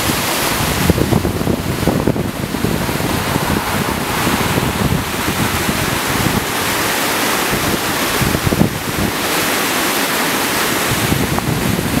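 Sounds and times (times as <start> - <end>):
creek water rushing: 0.0 - 12.0
wind on microphone: 0.0 - 12.0.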